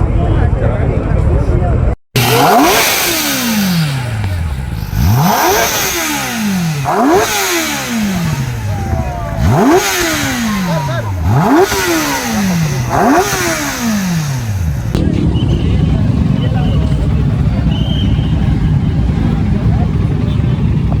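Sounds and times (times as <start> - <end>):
motorcycle engine revving: 2.1 - 21.0.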